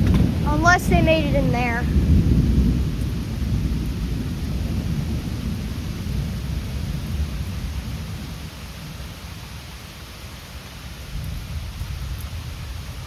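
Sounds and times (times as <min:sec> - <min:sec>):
rain hiss: 0:00.0 - 0:13.0
thunder rumbling: 0:00.0 - 0:13.0.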